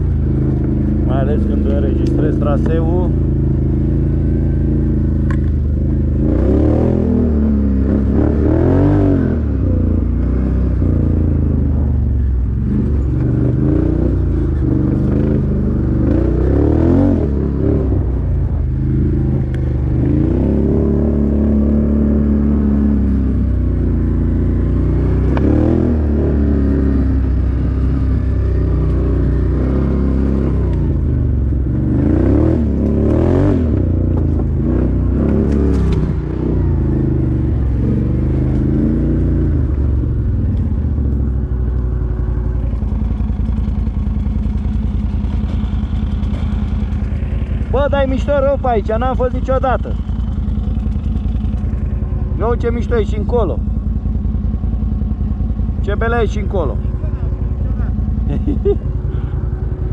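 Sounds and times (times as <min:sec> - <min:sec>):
atv engine revving under load: 0:00.0 - 0:59.9.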